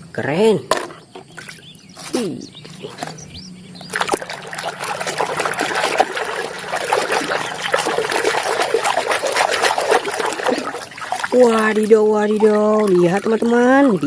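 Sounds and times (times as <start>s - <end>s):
water running and splashing: 2.6s - 14.0s.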